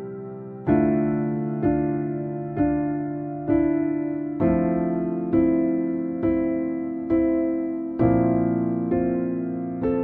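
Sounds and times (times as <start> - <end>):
soft electric piano chords: 0.0 - 10.0.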